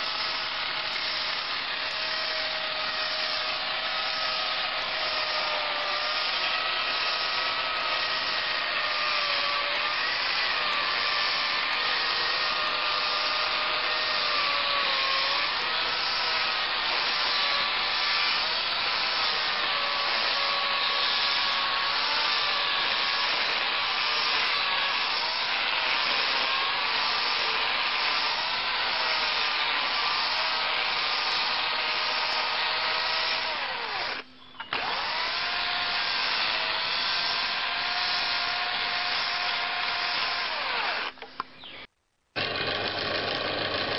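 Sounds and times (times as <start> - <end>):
electric chainsaw cutting wood: 0.0 - 43.9.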